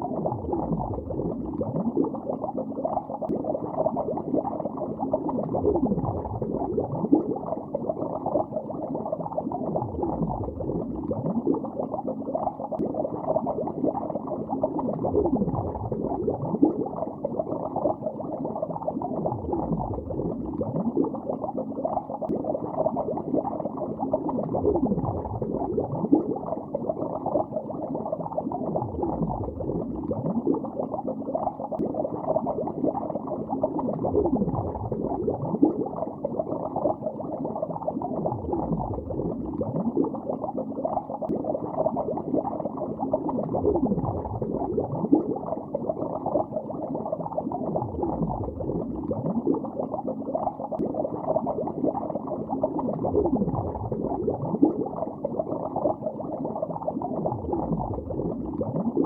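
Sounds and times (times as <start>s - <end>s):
low downward-sliding gurgle: 0.0s - 59.0s
underwater bubbling and gurgling: 0.0s - 59.0s.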